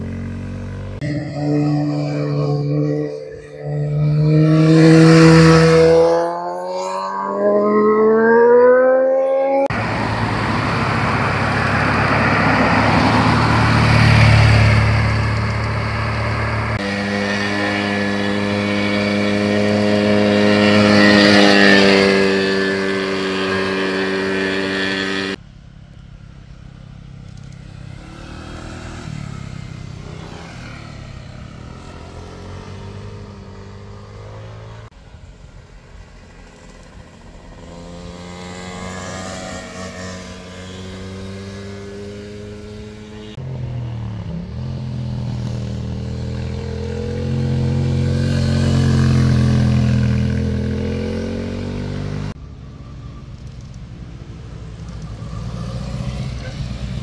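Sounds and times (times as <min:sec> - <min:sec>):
motor scooter passing: 0:00.0 - 0:25.4, 0:27.0 - 0:57.0
motorcycle engines passing: 0:00.0 - 0:57.0.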